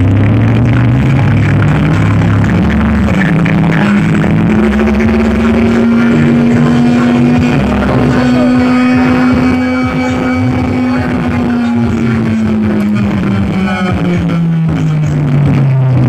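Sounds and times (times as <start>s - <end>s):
bass-heavy music from speakers: 0.0s - 16.0s.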